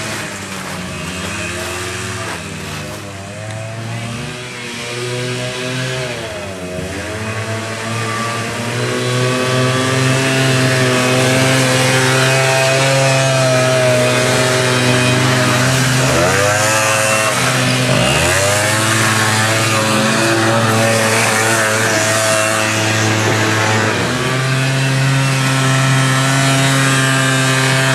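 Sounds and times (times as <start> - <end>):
quad bike engine revving: 0.0 - 27.9.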